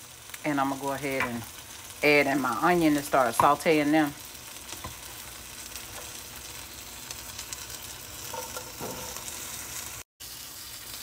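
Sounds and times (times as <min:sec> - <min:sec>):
chicken sizzling in a skillet: 0:00.0 - 0:11.0.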